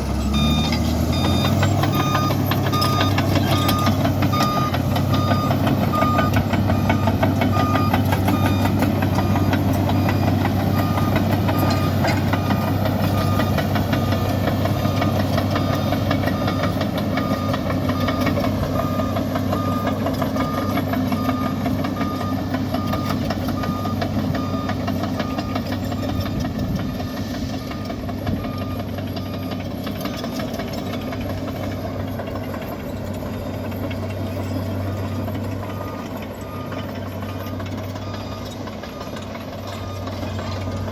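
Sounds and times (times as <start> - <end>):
diesel engine droning: 0.0 - 40.9
reversing alarm beeping: 0.0 - 40.9.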